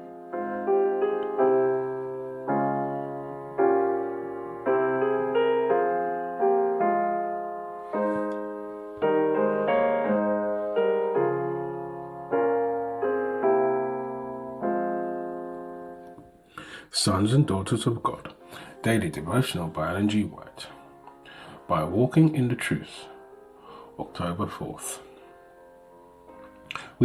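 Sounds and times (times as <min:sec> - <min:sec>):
slow soft piano chords: 0:00.0 - 0:27.0.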